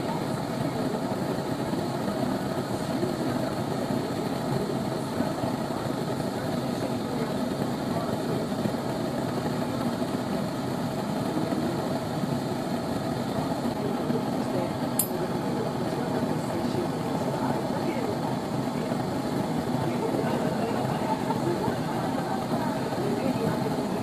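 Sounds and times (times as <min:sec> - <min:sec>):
gas burner flame rushing: 0:00.0 - 0:24.0.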